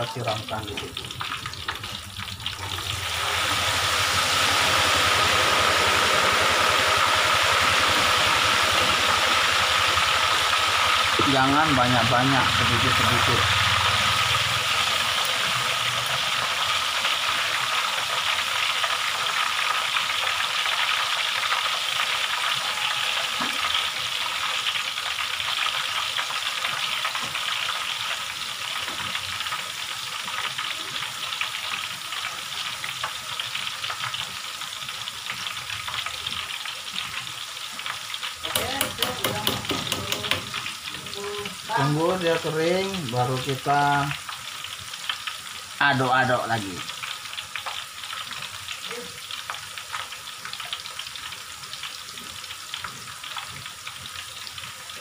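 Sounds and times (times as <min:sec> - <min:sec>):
tofu sizzling in hot oil: 0:00.0 - 0:55.0.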